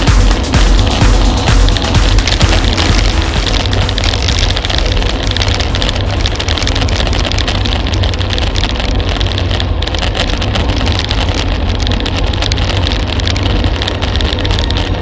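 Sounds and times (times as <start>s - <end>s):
tyres crackling on road: 0.0s - 15.0s
wind rushing over microphone: 0.0s - 15.0s.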